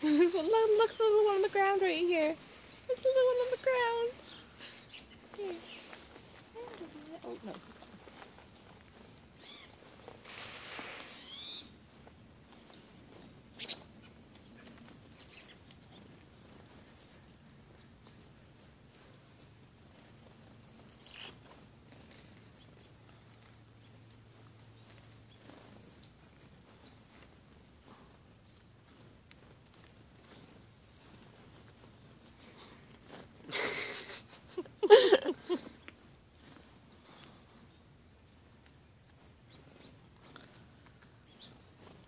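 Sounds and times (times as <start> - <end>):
chickadees calling: 0.0 - 42.0.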